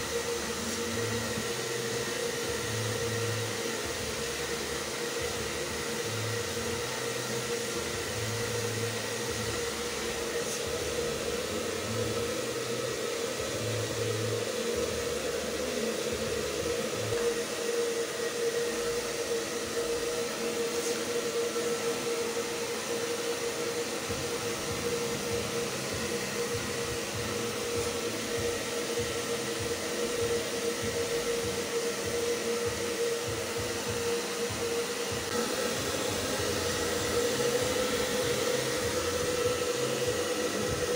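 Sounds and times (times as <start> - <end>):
hair dryer whining: 0.0 - 40.9.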